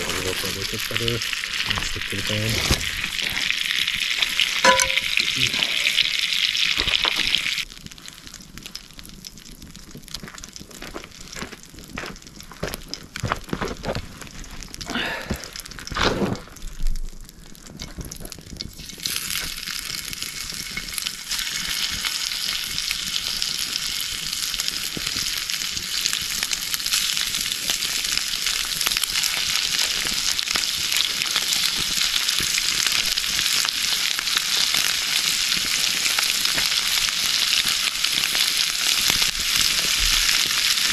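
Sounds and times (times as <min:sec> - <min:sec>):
meat sizzling in a skillet: 0:00.0 - 0:13.2, 0:17.4 - 0:40.9
crackle: 0:00.0 - 0:40.9.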